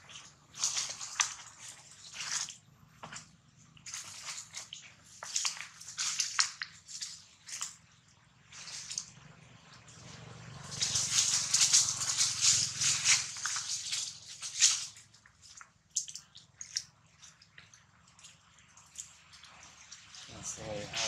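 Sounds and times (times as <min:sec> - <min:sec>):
dry leaves rustling and crackling: 0:00.0 - 0:17.4.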